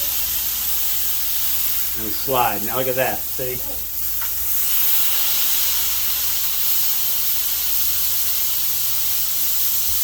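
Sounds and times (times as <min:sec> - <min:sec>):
burger patties sizzling on griddle: 0:00.0 - 0:10.0.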